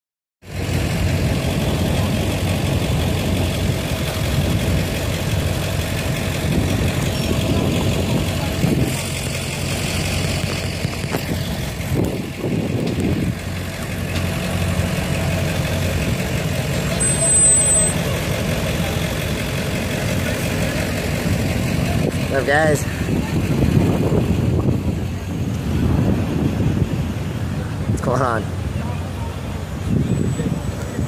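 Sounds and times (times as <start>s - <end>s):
vehicle engine idling: 0.4s - 31.0s.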